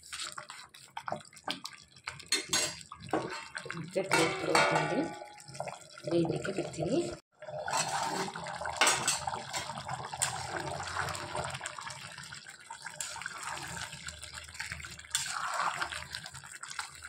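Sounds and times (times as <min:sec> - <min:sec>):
broth bubbling in a pot: 0:00.0 - 0:17.0.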